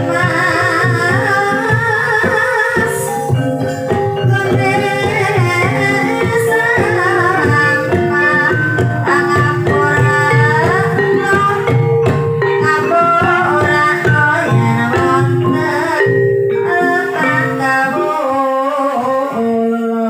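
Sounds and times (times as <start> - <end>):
hand drums rhythm: 0.0 - 18.2
metallophone notes: 0.0 - 20.0
wavering sung melody: 0.0 - 20.0.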